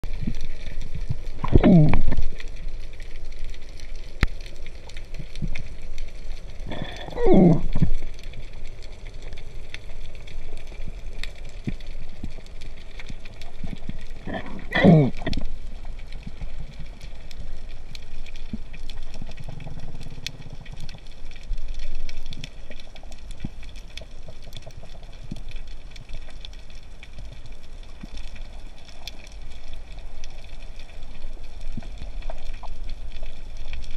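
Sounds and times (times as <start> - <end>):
faint clicks: 0.1 - 33.9.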